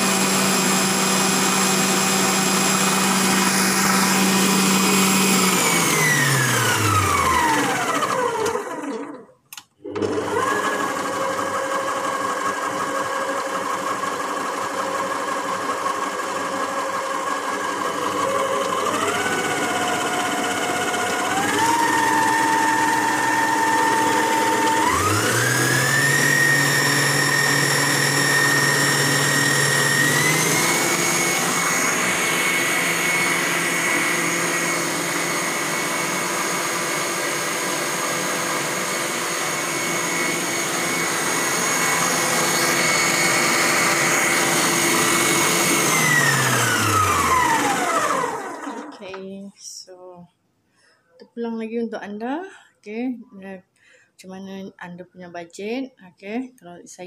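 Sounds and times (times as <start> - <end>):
stand mixer motor whining: 0.0 - 49.1.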